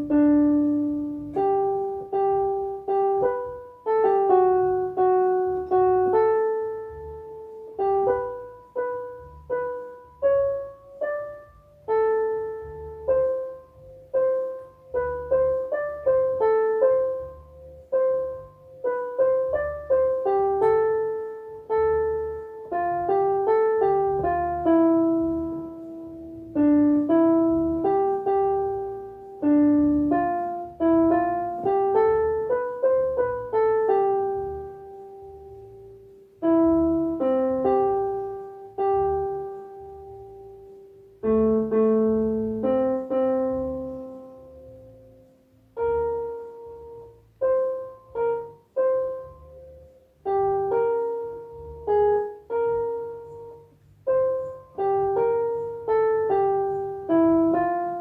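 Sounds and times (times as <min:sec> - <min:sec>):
low bass notes: 0:00.0 - 0:58.0
slow piano melody on keyboard: 0:00.0 - 0:58.0.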